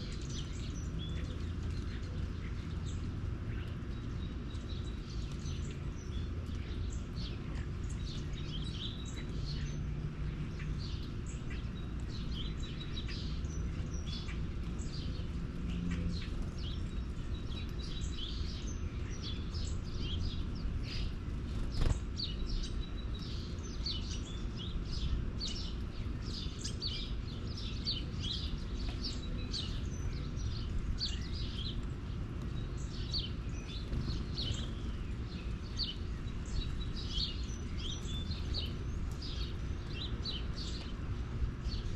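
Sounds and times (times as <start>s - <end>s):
low background rumble: 0.0s - 41.9s
small birds chirping: 0.0s - 41.9s.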